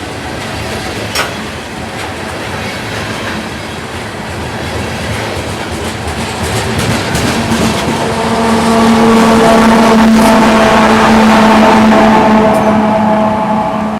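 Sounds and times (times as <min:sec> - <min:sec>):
diesel locomotive engine droning: 0:00.0 - 0:13.9
train rumble: 0:00.0 - 0:13.9.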